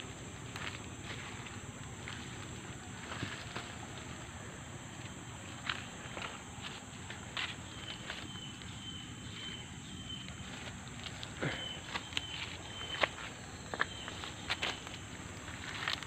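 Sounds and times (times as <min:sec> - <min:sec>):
high insect drone: 0:00.0 - 0:16.0
leaves and twigs crackling: 0:00.0 - 0:16.0.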